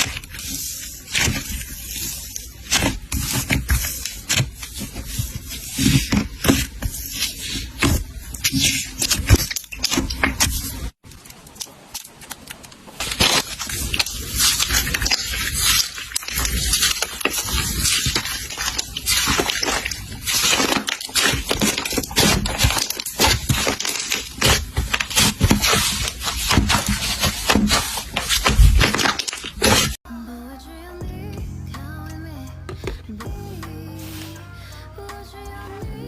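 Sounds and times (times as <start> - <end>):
slime crackling and popping: 0.0 - 30.0.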